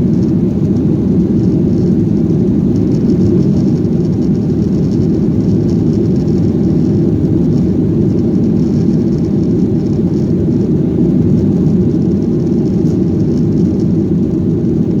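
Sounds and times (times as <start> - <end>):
jet engines and airflow rumble: 0.0 - 15.0.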